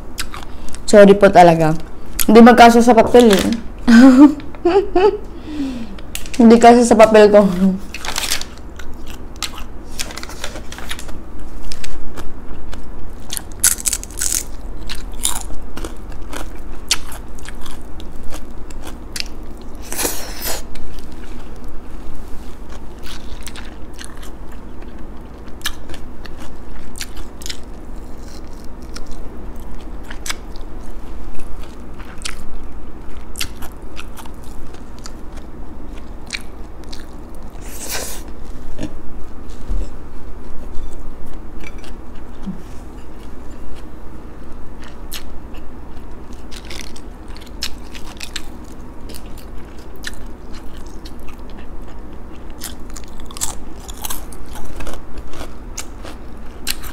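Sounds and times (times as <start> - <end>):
person chewing and crunching food: 0.1 - 0.9, 7.8 - 56.9.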